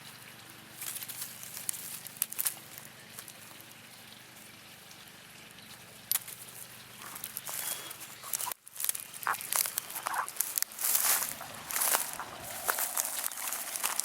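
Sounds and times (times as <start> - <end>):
dry leaves and twigs crackling: 0.0 - 3.8, 5.6 - 14.0.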